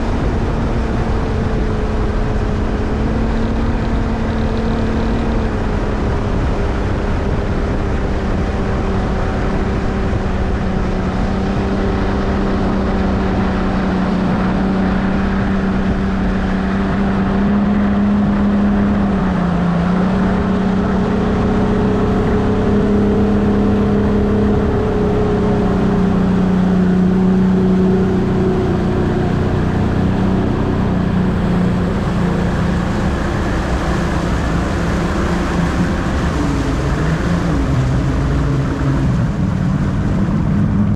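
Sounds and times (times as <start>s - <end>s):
constant rush of noise: 0.0s - 40.9s
outboard motor running: 0.0s - 40.9s.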